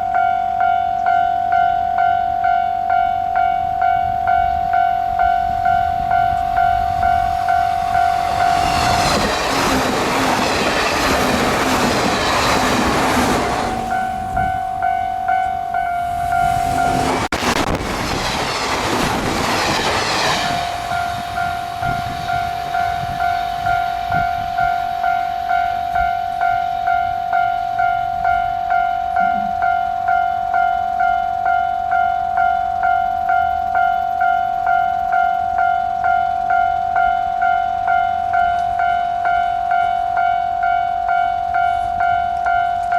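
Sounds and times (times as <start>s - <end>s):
level-crossing warning bell clanging: 0.0s - 42.9s
trains rumbling past: 0.0s - 42.9s.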